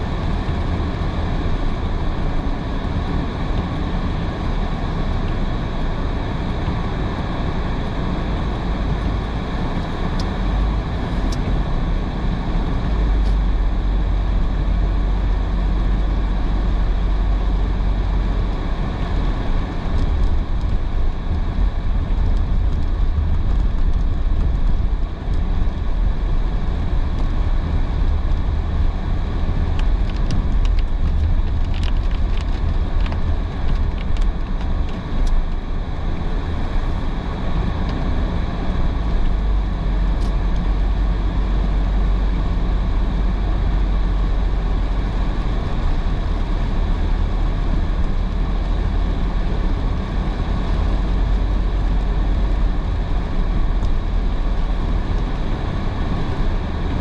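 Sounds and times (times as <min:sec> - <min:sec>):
tyre noise on wet road: 0:00.0 - 0:57.0.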